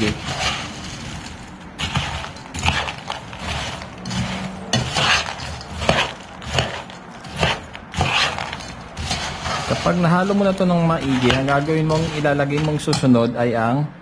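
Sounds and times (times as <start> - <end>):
spoon scraping and knocking pan: 0.0 - 13.2
spoon stirring dry biscuit pieces: 0.0 - 13.2.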